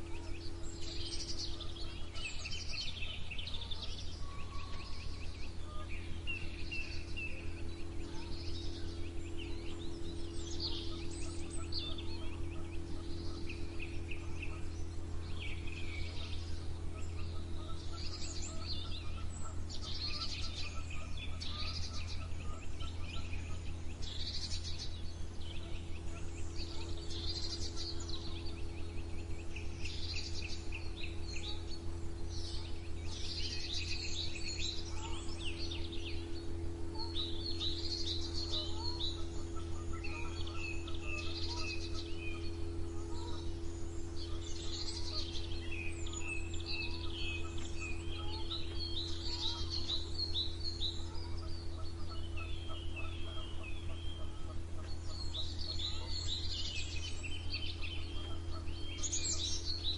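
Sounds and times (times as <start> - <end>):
songbirds chirping: 0.0 - 59.9
steady low hum: 0.0 - 59.9.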